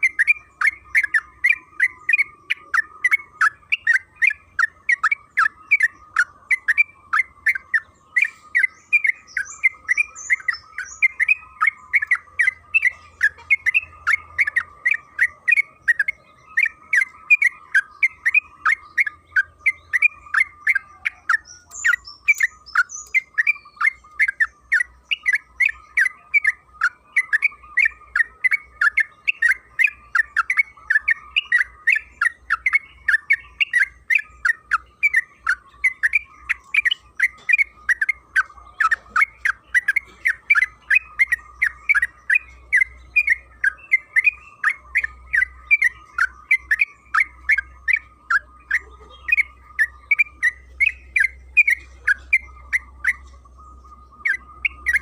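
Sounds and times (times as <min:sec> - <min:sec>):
bird singing chattering notes: 0:00.0 - 0:55.0.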